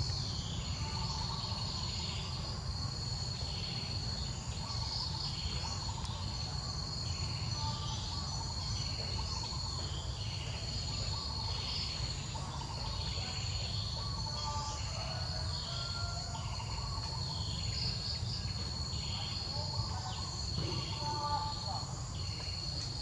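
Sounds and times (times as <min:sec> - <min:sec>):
insects droning high-pitched: 0:00.0 - 0:23.0.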